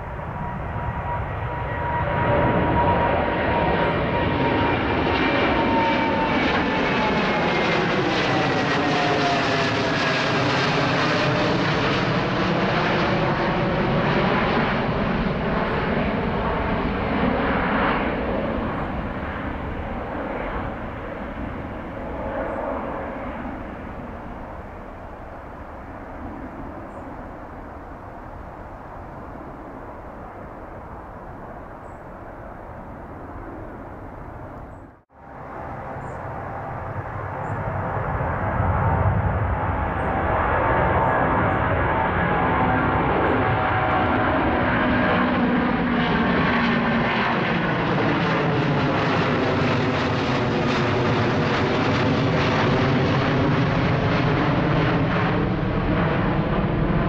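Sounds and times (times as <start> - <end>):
jet engines passing overhead: 0.0 - 57.0.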